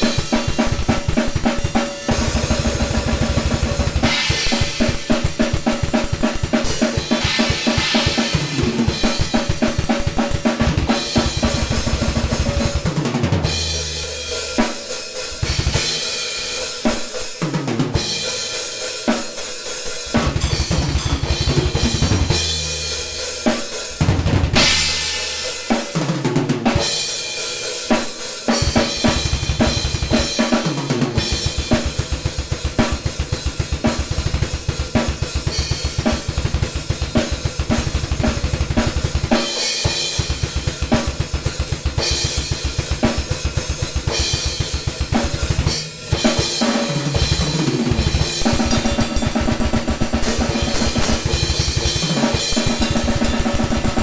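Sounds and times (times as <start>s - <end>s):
drum kit played hard: 0.0s - 54.0s.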